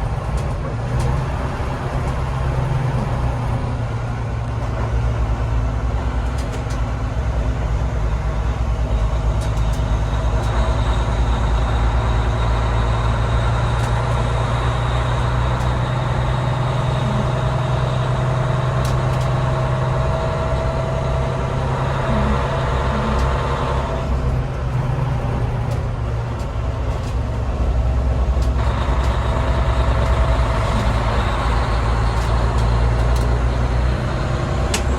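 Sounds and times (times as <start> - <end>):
fire truck engine running: 0.0 - 34.9
road noise: 0.0 - 34.9.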